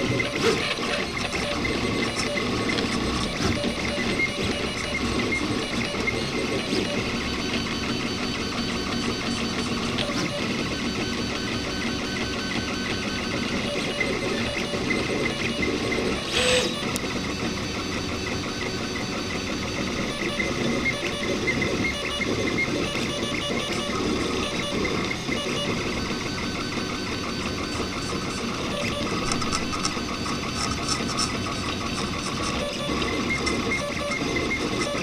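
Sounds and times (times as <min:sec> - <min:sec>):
stepper motors whining: 0:00.0 - 0:35.0.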